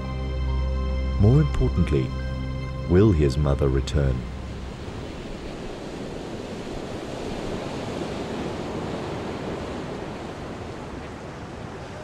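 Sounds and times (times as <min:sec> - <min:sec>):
ocean waves washing: 0:00.0 - 0:12.0.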